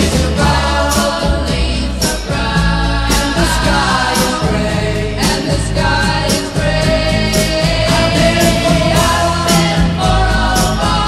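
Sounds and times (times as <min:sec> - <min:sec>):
song with singing over drums: 0:00.0 - 0:11.0.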